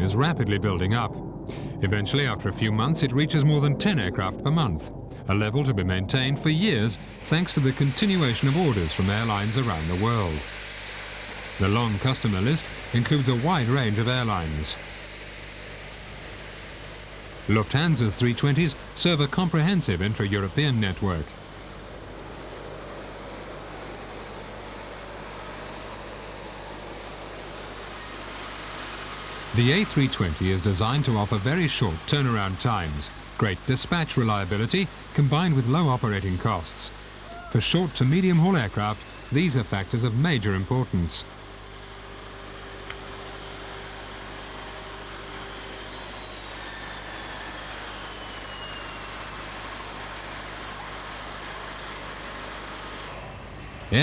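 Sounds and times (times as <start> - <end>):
faint high whine falling in pitch: 0.0 - 54.0
jet engines rushing: 0.0 - 54.0.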